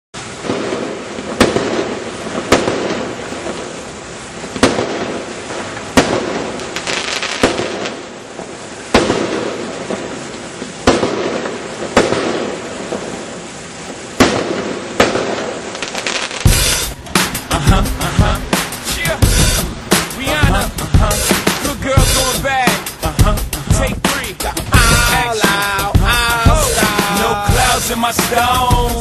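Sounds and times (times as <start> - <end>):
fireworks bangs: 0.2 - 29.0.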